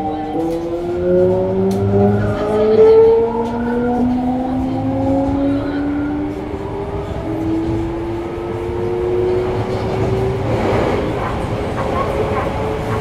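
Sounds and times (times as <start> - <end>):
low hum of running train: 0.0 - 13.0.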